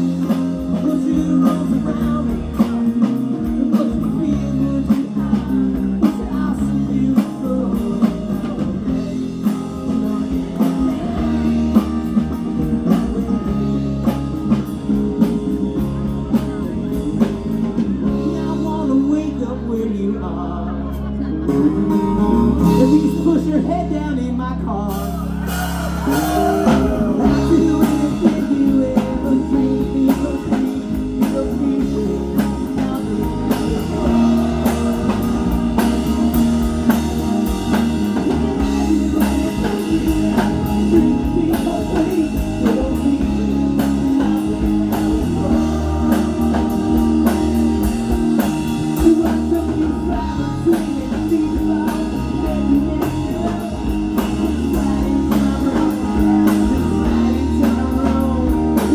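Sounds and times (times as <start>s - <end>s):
drum kit: 0.0s - 19.1s, 21.5s - 23.9s, 24.9s - 58.9s
electric guitar: 0.0s - 58.9s
person singing: 0.0s - 58.9s.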